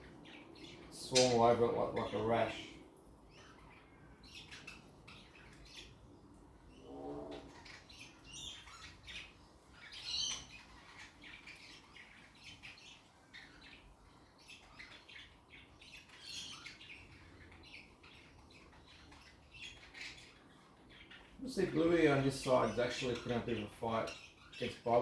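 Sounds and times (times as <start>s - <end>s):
budgerigars chirping and squawking: 0.0s - 25.0s.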